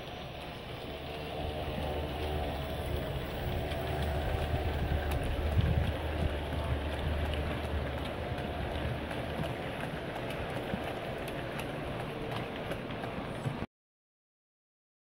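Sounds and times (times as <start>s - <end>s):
motor and gearbox whine: 0.0s - 13.6s
model train wheels rumbling: 0.0s - 13.7s
wheels clicking over rail joints: 0.0s - 13.7s.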